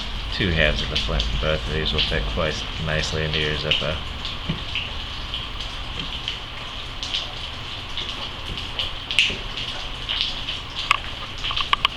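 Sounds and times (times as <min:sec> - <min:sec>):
steady hiss: 0:00.0 - 0:11.9.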